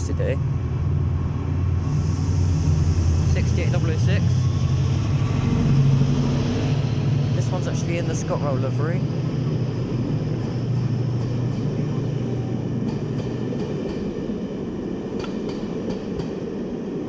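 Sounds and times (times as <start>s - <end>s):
locomotive engine humming: 0.0s - 17.0s.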